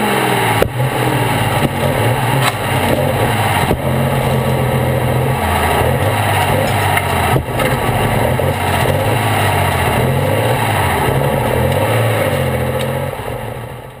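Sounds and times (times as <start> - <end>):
tractor engine running at low revs: 0.0 - 14.0.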